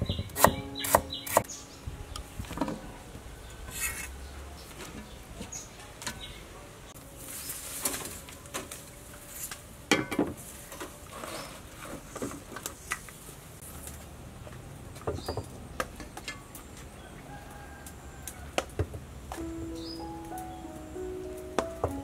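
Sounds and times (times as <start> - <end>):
birds calling faintly: 0.0 - 9.6, 10.6 - 22.0.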